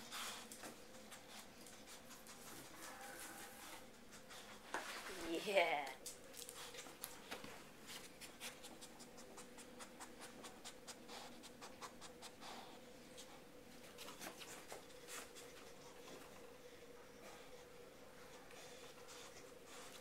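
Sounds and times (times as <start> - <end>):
dog sniffing: 0.0 - 4.9, 6.4 - 16.4, 17.0 - 20.0
faint steady hum: 0.0 - 20.0.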